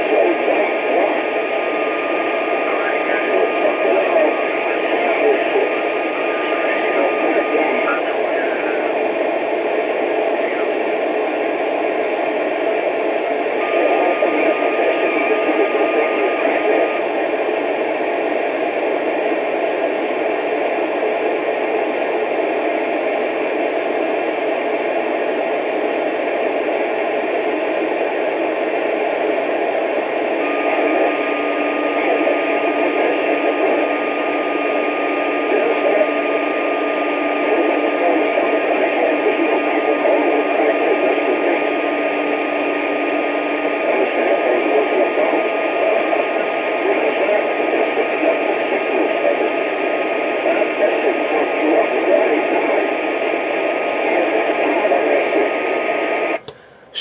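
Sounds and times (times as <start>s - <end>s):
radio receiver hiss: 0.0s - 57.0s.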